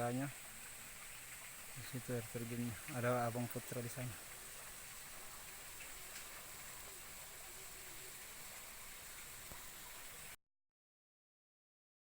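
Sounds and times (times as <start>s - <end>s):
faint outdoor hiss: 0.0s - 10.4s.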